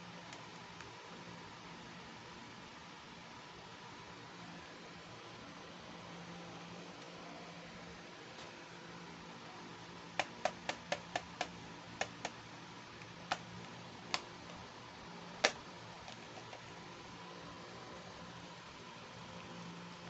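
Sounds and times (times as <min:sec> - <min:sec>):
low hiss: 0:00.0 - 0:20.0.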